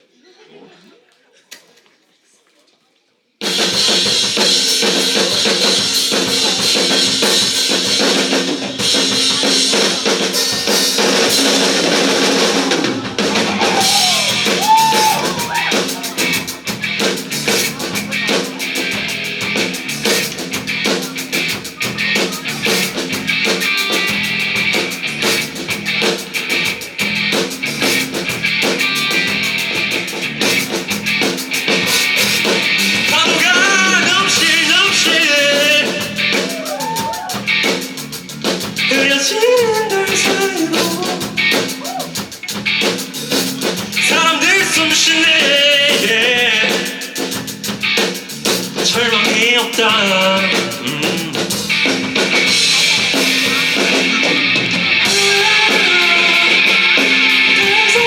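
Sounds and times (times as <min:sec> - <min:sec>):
drum kit: 0:03.4 - 0:58.0
live rock band playing: 0:03.4 - 0:58.0
bending electric guitar line: 0:03.6 - 0:58.0.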